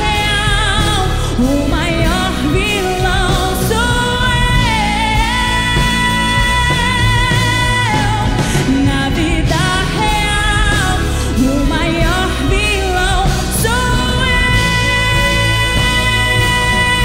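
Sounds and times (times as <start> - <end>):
orchestra with piano and band: 0.0 - 17.0
woman singing: 0.0 - 17.0.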